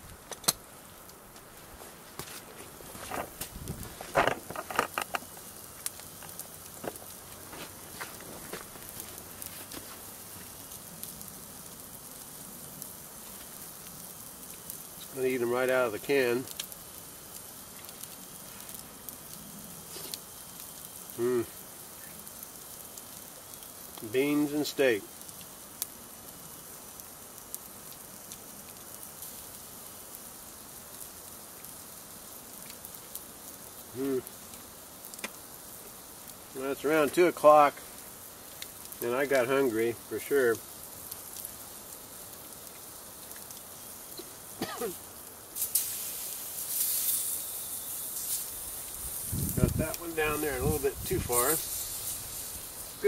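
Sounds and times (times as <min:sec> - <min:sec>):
campfire crackling: 0:00.0 - 0:53.0.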